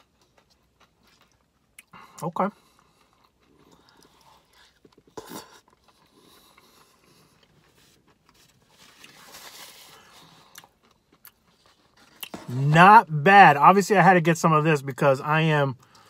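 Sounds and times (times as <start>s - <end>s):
man chewing: 0.0s - 12.7s, 15.8s - 16.0s.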